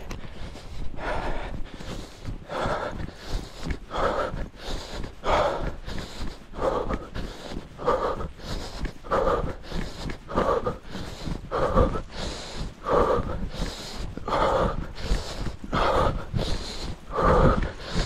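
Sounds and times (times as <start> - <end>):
man breathing hard: 0.0 - 18.0.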